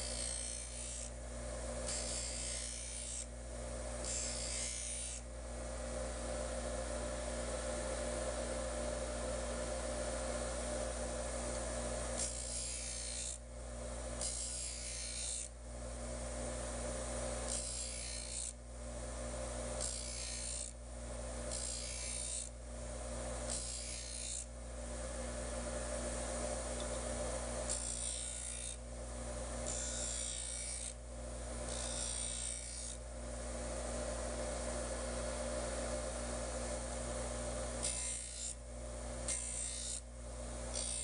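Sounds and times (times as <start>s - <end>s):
bench grinder motor humming: 0.0s - 5.3s, 6.0s - 41.0s.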